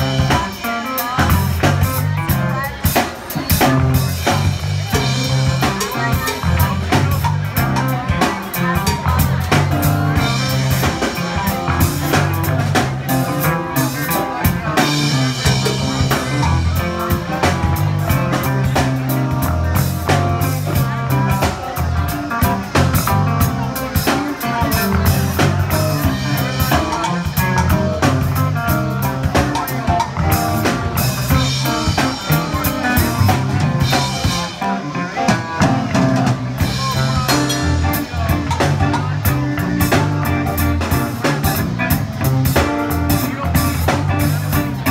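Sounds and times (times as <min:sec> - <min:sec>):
drum beat: 0:00.0 - 0:34.6, 0:35.2 - 0:44.9
bass line: 0:00.0 - 0:44.9
live soul band playing: 0:00.0 - 0:44.9.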